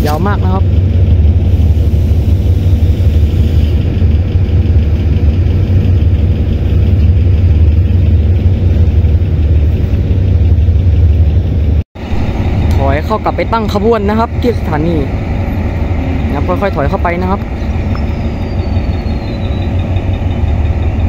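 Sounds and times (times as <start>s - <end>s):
locomotive engine rumbling: 0.0s - 21.0s.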